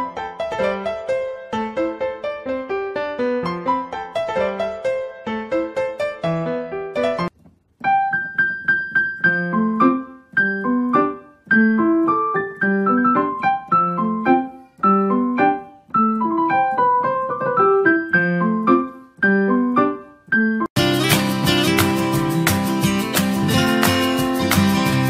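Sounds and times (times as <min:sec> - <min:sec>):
piano keyboard music: 0:00.0 - 0:25.0.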